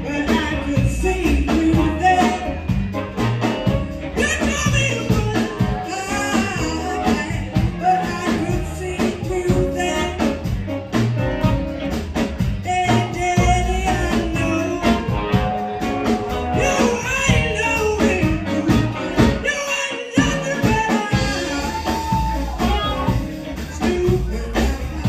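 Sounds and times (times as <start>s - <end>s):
drums: 0.0s - 25.0s
electric guitar: 0.0s - 25.0s
upright bass: 0.0s - 25.0s.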